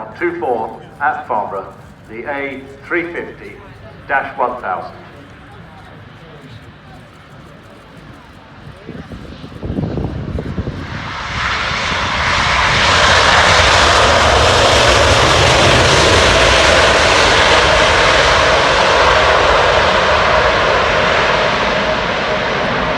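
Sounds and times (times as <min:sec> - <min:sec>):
jet engines roaring: 0:00.0 - 0:22.9.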